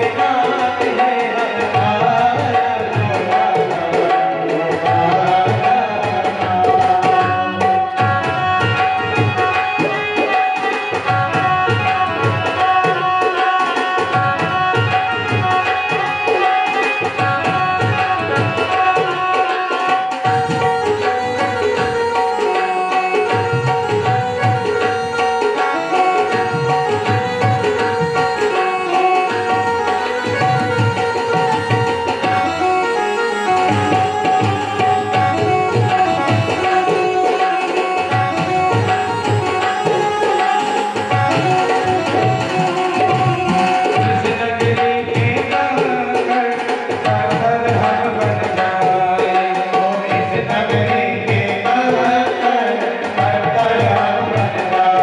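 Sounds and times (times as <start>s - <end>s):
tabla rhythm: 0.0s - 55.0s.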